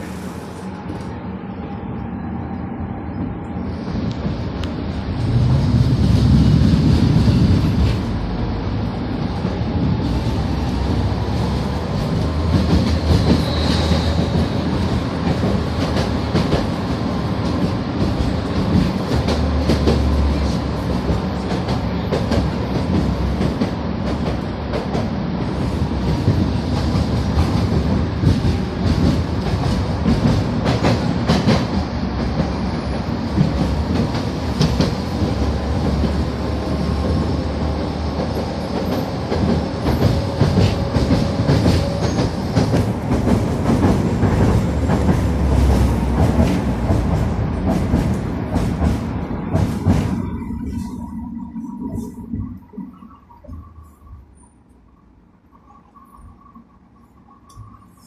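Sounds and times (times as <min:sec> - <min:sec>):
tram rumbling along track: 0:00.0 - 0:58.0.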